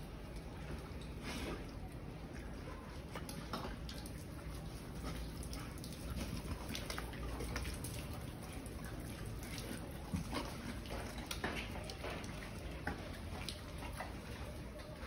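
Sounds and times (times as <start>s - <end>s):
pigs eating wet feed: 0.0s - 15.0s.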